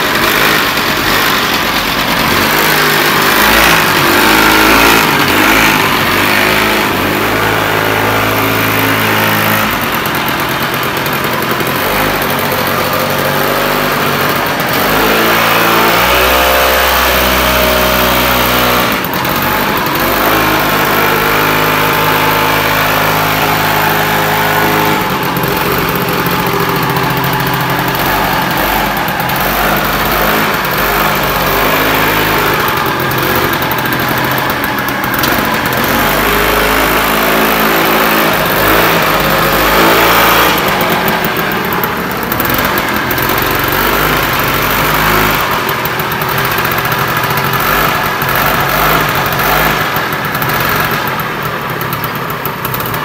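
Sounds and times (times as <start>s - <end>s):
scooter engine kickstart: 0.0s - 53.0s
two-stroke scooter engine idling: 0.0s - 53.0s.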